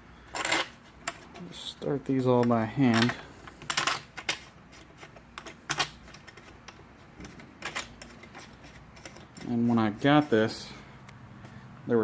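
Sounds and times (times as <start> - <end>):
metal bolts clicking: 0.3 - 10.5.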